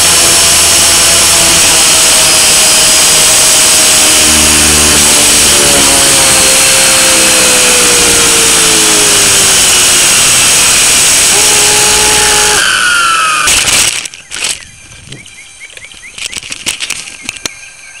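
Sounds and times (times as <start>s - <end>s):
helicopter motor and rotor whir: 0.0s - 14.6s.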